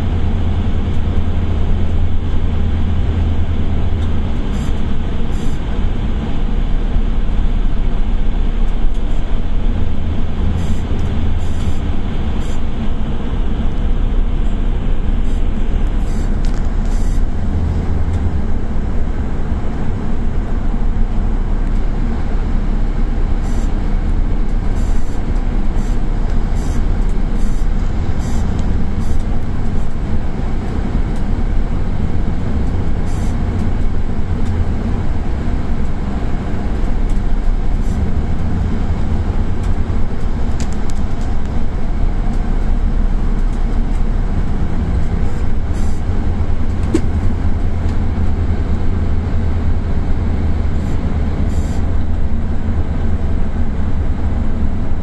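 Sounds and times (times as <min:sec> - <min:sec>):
heavy vehicle engine and tyre rumble: 0:00.0 - 0:55.0.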